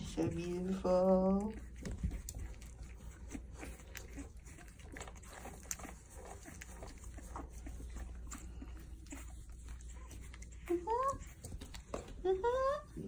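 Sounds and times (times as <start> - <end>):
light clicks and scrabbling: 0.0 - 12.4
puppies grunting and squeaking: 0.0 - 13.0.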